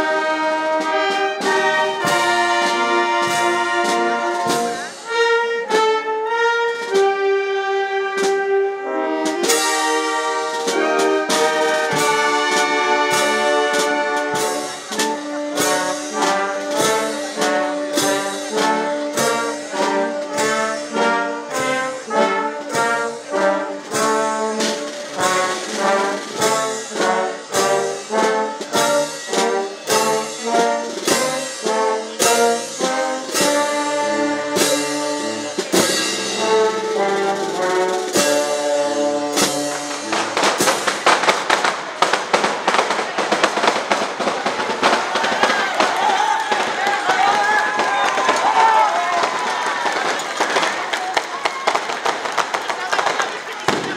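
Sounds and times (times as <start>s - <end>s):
brass band playing melody: 0.0s - 53.9s.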